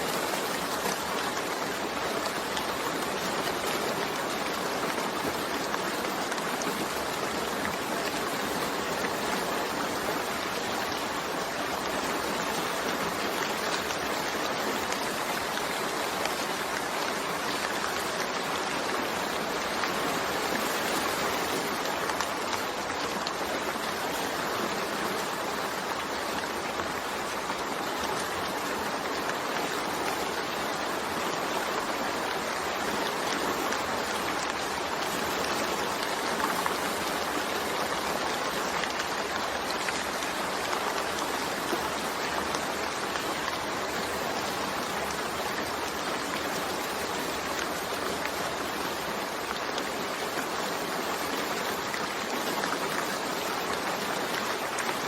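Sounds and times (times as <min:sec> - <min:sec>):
steady rain patter: 0:00.0 - 0:55.0.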